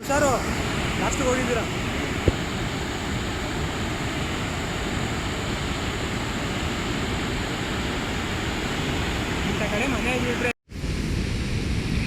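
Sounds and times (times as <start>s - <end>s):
waterfall roaring: 0.0s - 10.5s.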